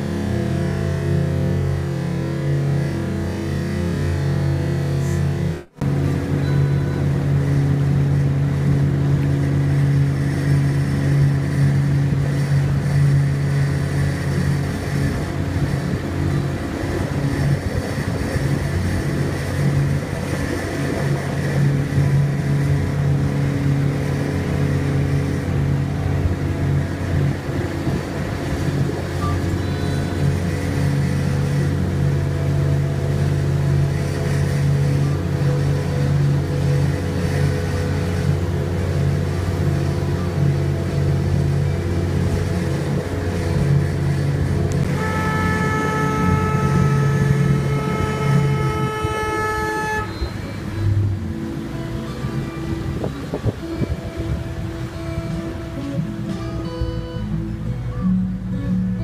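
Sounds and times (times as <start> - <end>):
outboard motor droning: 0.0 - 59.0.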